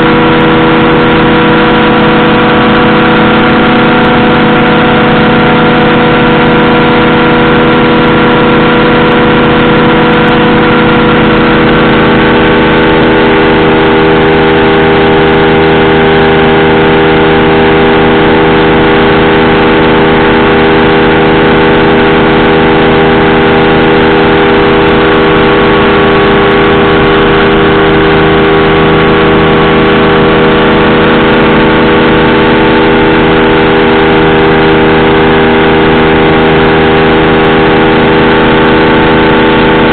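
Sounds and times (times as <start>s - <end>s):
powered parachute engine and propeller: 0.0s - 39.9s.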